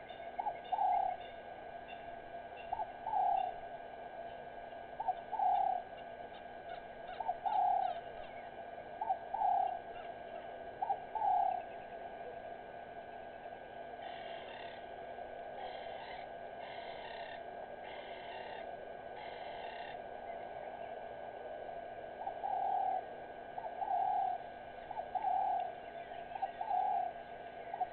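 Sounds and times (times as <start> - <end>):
faint bird chirps: 0.0 - 12.4, 13.1 - 14.9, 15.5 - 21.2, 22.2 - 27.9.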